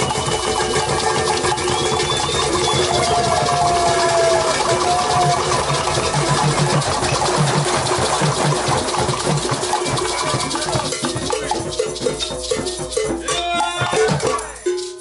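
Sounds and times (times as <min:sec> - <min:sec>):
hand drums beaten: 0:00.0 - 0:15.0
maracas shaken: 0:00.0 - 0:15.0
pitched percussion notes: 0:00.0 - 0:15.0.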